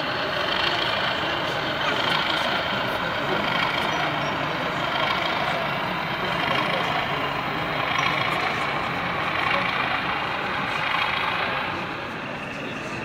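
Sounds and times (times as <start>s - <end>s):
crowd chatter: 0.0s - 13.0s
model locomotive engine sound: 0.0s - 13.0s.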